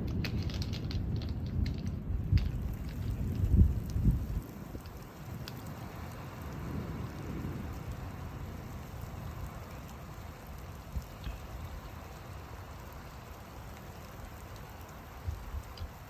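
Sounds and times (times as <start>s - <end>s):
low thunder rumbling: 0.0s - 13.2s
raindrop ticks: 0.0s - 16.0s
steady rain falling: 0.0s - 16.0s.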